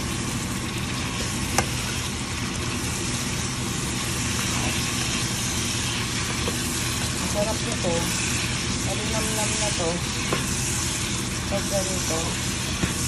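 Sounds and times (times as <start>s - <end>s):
kitchen exhaust fan hum: 0.0s - 13.0s
shrimp sizzling in a pan: 0.0s - 13.0s
spatula stirring: 0.8s - 13.0s.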